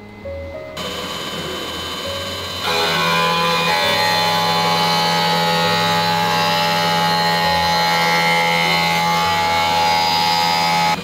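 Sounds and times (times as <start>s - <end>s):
grinding wheel whine: 0.0s - 11.0s
low hum: 0.0s - 11.0s.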